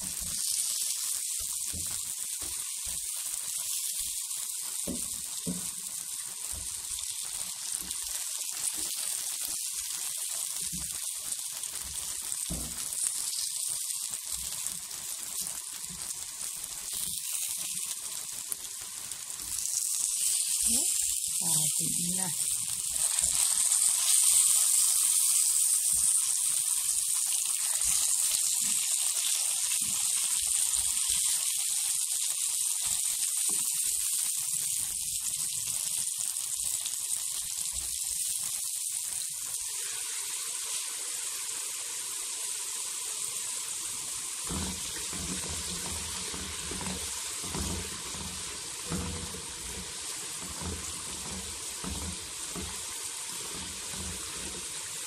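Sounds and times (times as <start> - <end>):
patties sizzling in frying pan: 0.0 - 55.0.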